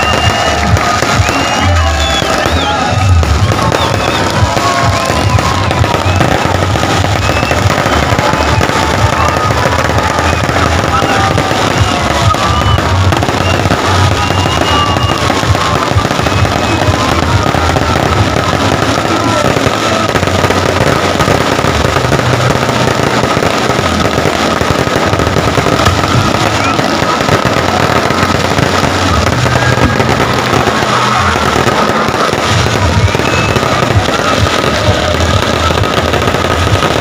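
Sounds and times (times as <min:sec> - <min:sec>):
fireworks crackling and popping: 0:00.0 - 0:37.0
music playing: 0:00.0 - 0:37.0.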